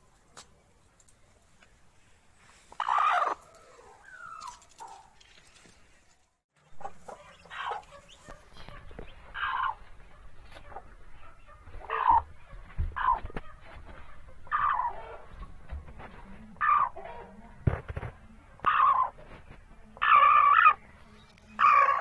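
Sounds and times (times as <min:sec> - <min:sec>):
chickens calling: 0:02.4 - 0:05.9, 0:06.6 - 0:17.5, 0:18.6 - 0:22.0.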